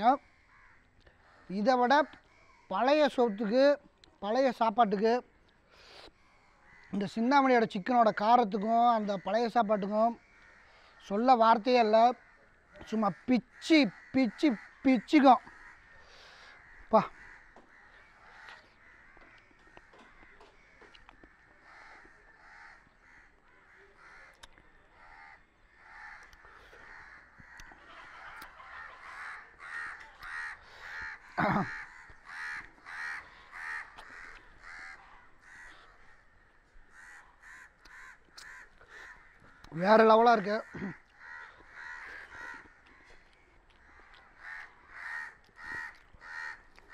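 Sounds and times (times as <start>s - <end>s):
crows cawing: 0.0s - 46.9s.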